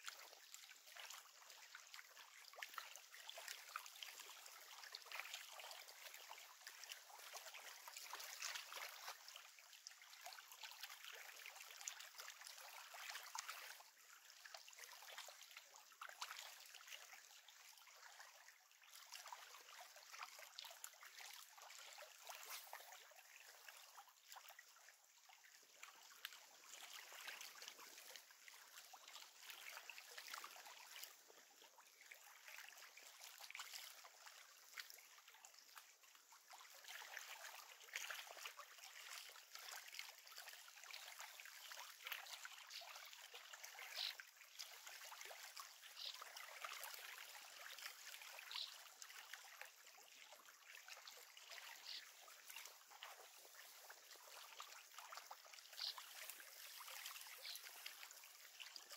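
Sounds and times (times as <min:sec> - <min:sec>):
lake water lapping at shore: 0:00.0 - 0:58.9.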